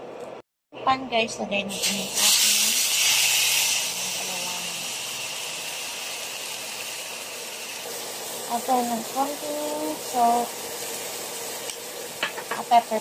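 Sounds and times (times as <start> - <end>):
pork sizzling in a hot pan: 1.7 - 13.0.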